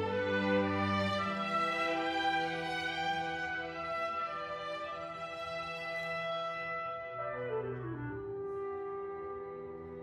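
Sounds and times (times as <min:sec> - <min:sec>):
bowed strings sustained notes: 0:00.0 - 0:10.0
chamber orchestra playing: 0:00.0 - 0:10.0.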